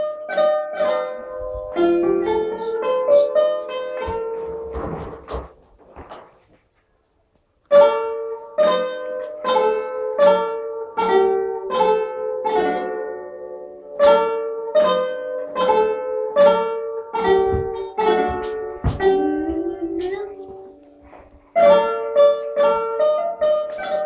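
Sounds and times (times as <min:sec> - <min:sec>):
plucked zither melody: 0:00.0 - 0:06.1, 0:07.7 - 0:24.0.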